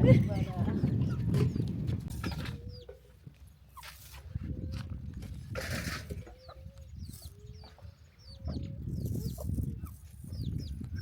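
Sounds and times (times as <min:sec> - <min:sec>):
chickens clucking: 0:00.7 - 0:11.0.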